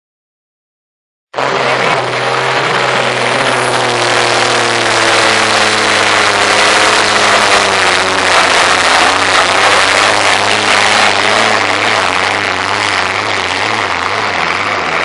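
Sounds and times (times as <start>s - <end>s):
tractor diesel engine under load: 1.4s - 15.0s.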